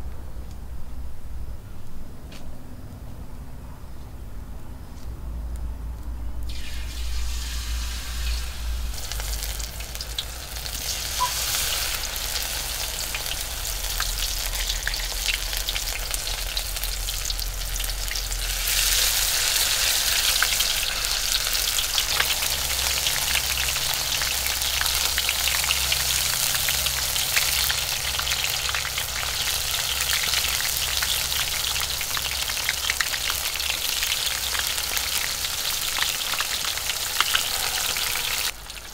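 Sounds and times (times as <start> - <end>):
food deep-frying in oil: 6.5 - 38.9.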